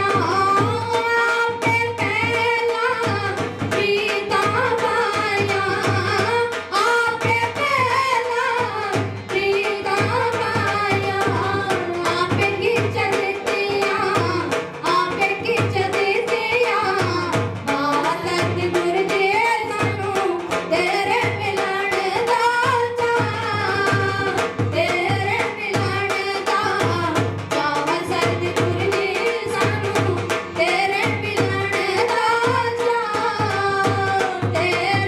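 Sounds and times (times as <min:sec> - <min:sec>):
steady drum beat: 0:00.0 - 0:35.0.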